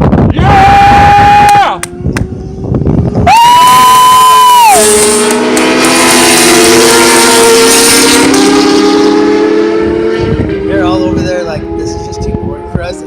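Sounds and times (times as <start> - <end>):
racing motorcycle engines revving: 0.4 - 13.0.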